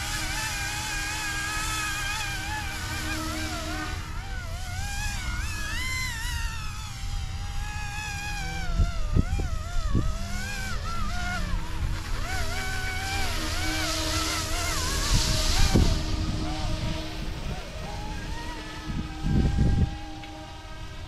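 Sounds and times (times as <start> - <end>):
rc helicopter rotors whining: 0.0 - 21.0
wind rumble on microphone: 0.0 - 21.0.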